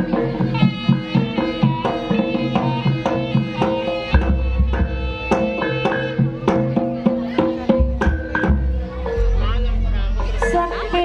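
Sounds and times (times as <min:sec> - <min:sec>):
hand drum strokes: 0:00.0 - 0:11.0
held melodic tones: 0:00.0 - 0:11.0.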